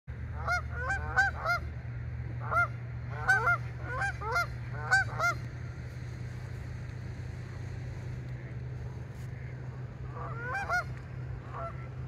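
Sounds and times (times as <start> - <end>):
low rumble: 0.1 - 12.0
geese honking: 0.2 - 12.0.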